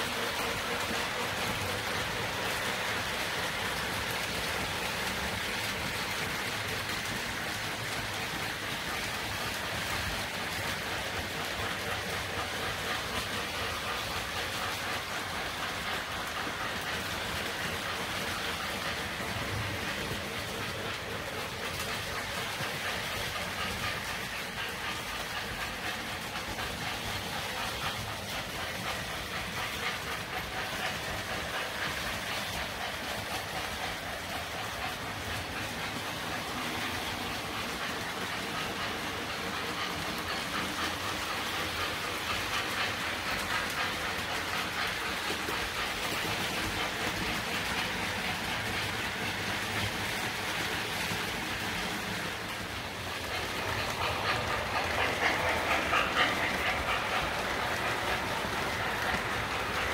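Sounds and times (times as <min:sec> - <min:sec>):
model train wheels on rails: 0:00.0 - 0:59.9.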